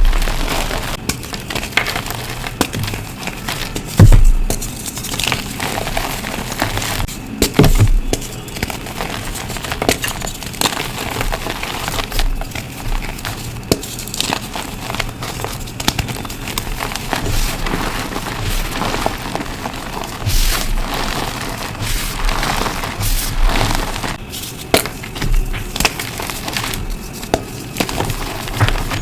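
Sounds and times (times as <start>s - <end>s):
chalk blocks crunching: 0.0s - 29.0s.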